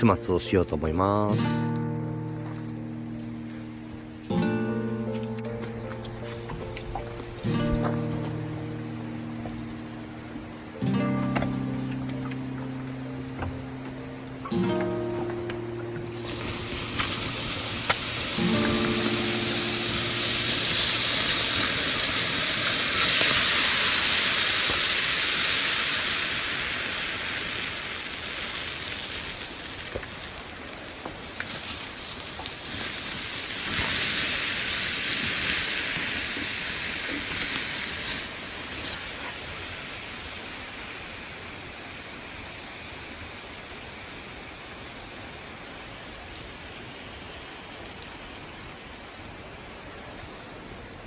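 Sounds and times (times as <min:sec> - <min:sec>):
water hissing on hot embers: 0:00.0 - 0:51.0.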